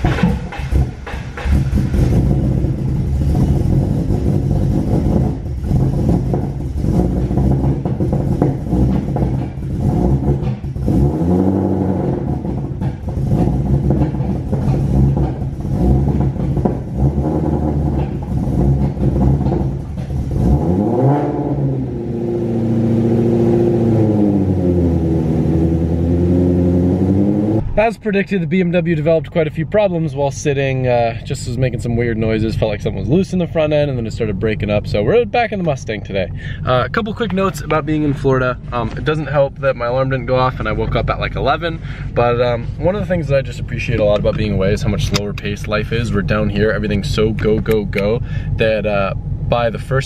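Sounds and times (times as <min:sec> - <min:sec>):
car engine revving and idling: 0:00.0 - 0:50.0.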